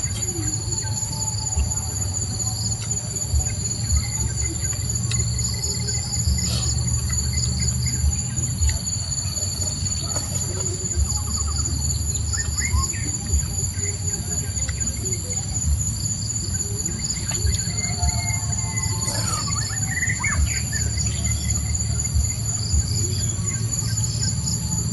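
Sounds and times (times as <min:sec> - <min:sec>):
bird chirps: 0:00.0 - 0:24.9
insects shrilling: 0:00.0 - 0:24.9.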